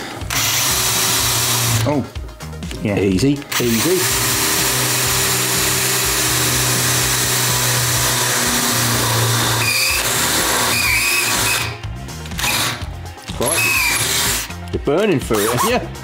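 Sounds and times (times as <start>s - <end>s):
cordless drill boring through metal: 0.0s - 1.9s, 3.5s - 14.6s, 15.3s - 15.8s.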